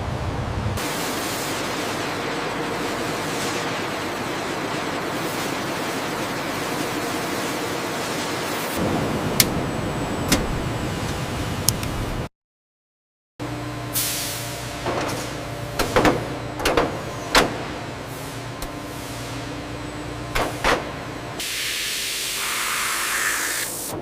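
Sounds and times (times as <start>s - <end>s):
factory machine noise: 0.0s - 12.3s, 13.4s - 24.0s.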